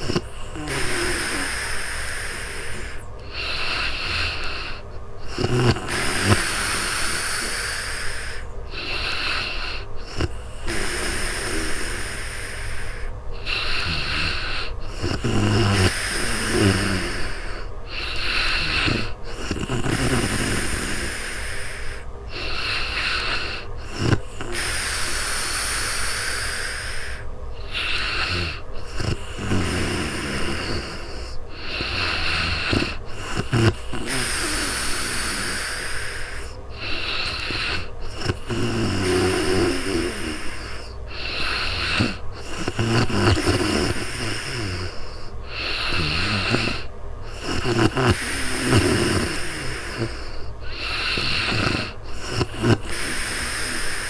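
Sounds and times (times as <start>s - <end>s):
woman snoring: 0.0s - 54.0s.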